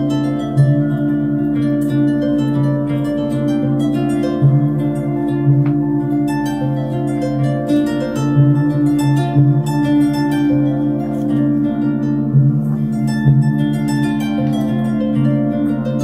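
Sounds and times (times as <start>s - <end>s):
kora plucked melody: 0.0s - 16.0s.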